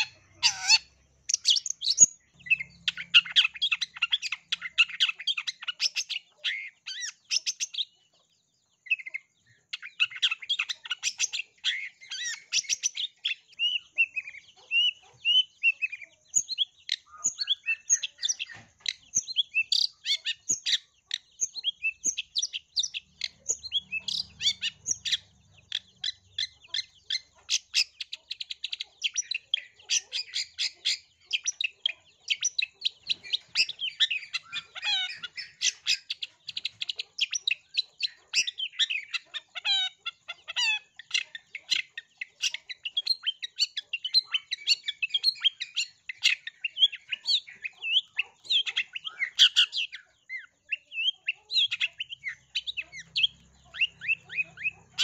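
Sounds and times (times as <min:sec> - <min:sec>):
bird singing rapid chirps: 0:00.0 - 0:55.0.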